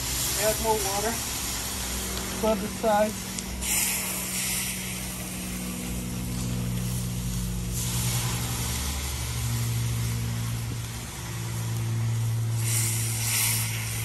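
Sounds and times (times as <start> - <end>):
griddle scrubbing: 0.0 - 14.0
low engine-like drone: 0.0 - 14.0
water hissing on hot griddle: 0.0 - 14.0.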